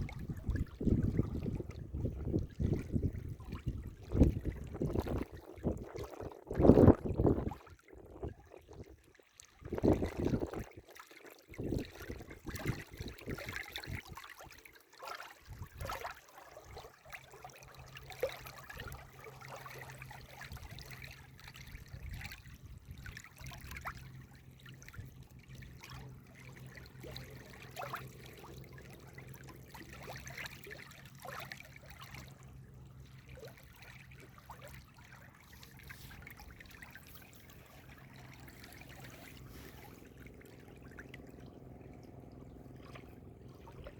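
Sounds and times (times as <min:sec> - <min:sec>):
water trickling in a stream: 0:00.0 - 0:43.9.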